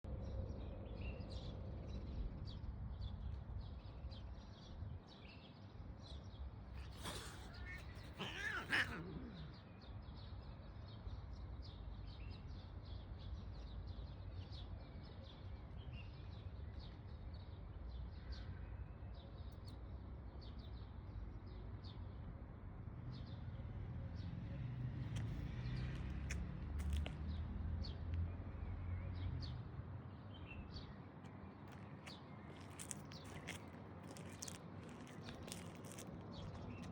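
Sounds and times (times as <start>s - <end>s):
small birds chirping: 0.2s - 18.6s, 25.0s - 36.9s.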